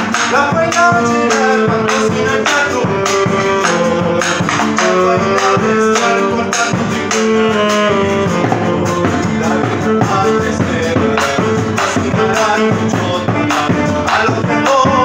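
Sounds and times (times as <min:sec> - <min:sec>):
tenor saxophone melody: 0:00.0 - 0:14.9
drum beat: 0:00.0 - 0:15.0
strummed guitar: 0:00.0 - 0:15.0.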